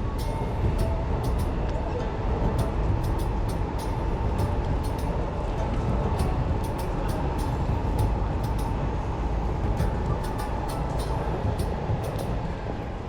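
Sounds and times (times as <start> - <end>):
city street rumble: 0.0 - 13.0.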